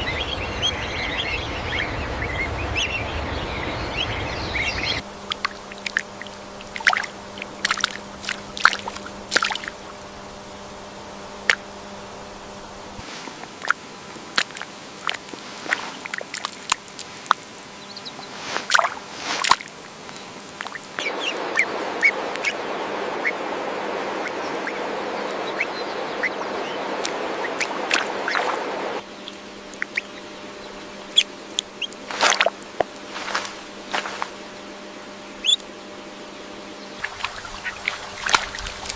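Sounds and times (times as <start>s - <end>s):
running water rushing: 0.0s - 36.2s, 36.9s - 38.9s
faint hum: 0.0s - 38.9s.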